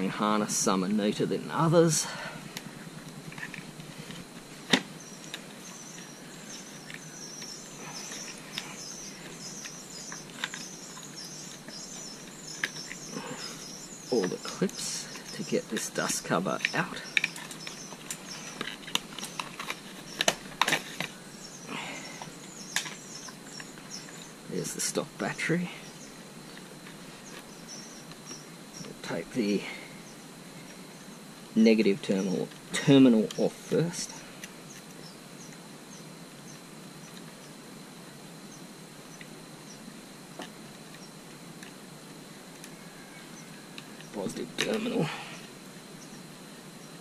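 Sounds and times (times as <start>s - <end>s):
insects droning and chirping: 0.0s - 47.0s.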